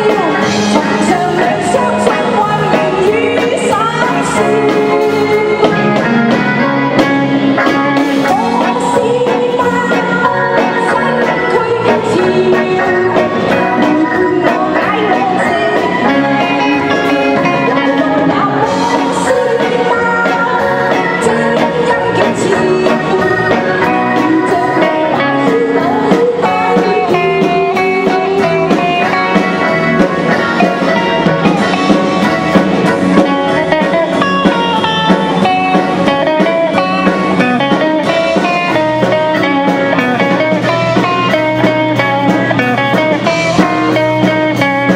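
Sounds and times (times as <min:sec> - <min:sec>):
guitar: 0:00.0 - 0:44.9
live band music: 0:00.0 - 0:44.9
person singing: 0:00.0 - 0:44.9.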